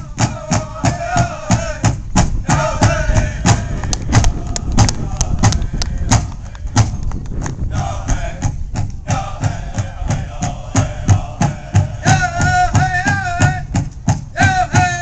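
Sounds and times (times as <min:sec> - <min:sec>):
drum beaten steadily: 0:00.0 - 0:15.0.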